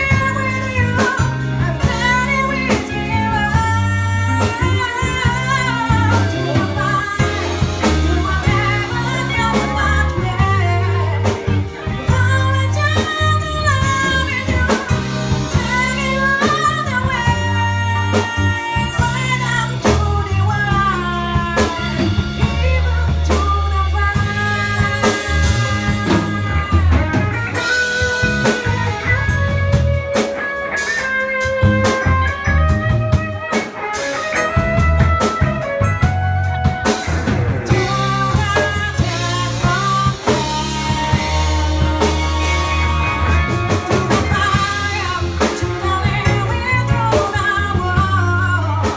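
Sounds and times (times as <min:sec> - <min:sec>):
person singing: 0:00.0 - 0:29.5, 0:30.2 - 0:48.9
blues-rock band playing: 0:00.0 - 0:48.9.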